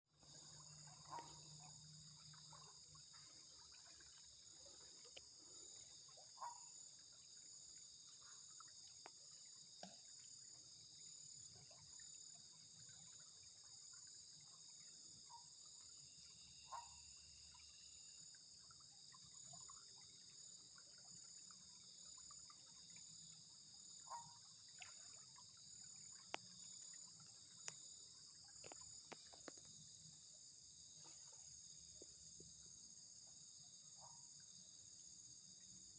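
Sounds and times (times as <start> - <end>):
insects chorus: 0.2 - 35.9.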